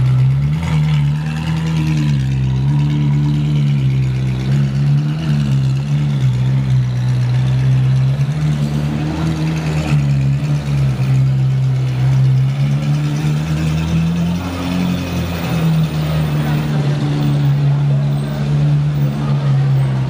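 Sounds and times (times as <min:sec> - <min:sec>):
car engine at low revs: 0:00.0 - 0:20.0.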